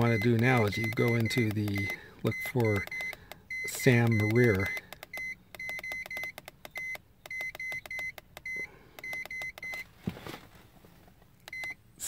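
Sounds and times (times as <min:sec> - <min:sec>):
high key-press beeps: 0:00.0 - 0:09.8, 0:11.4 - 0:11.8.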